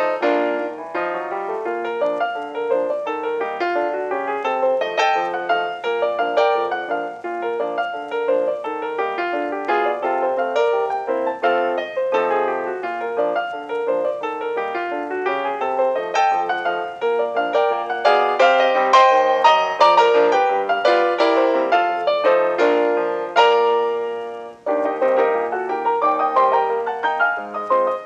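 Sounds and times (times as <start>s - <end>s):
piano music with quick notes: 0.0s - 28.0s.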